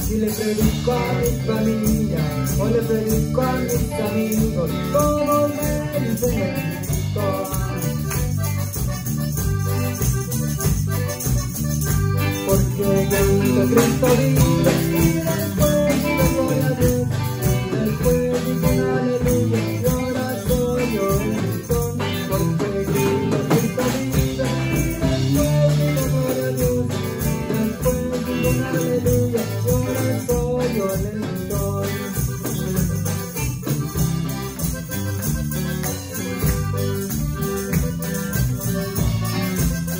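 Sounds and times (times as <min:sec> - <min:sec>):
accordion melody: 0:00.0 - 0:39.9
jingling percussion: 0:00.0 - 0:39.9
live band music: 0:00.0 - 0:39.9.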